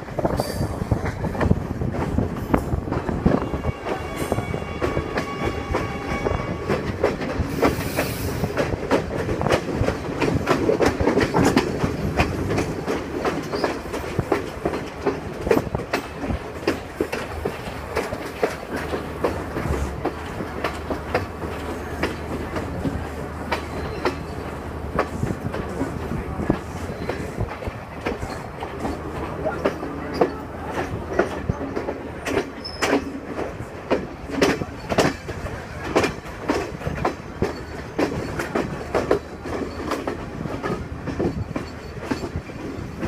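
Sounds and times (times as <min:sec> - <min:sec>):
train rumble: 0:00.0 - 0:43.0
train wheels clacking over rail joints: 0:00.0 - 0:43.0.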